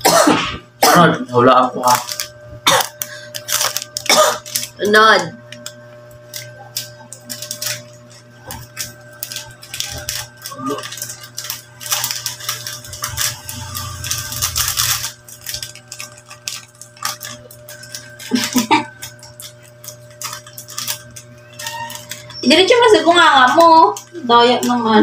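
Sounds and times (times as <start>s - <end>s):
snack wrapper crinkling: 1.8s - 4.8s, 5.6s - 24.8s.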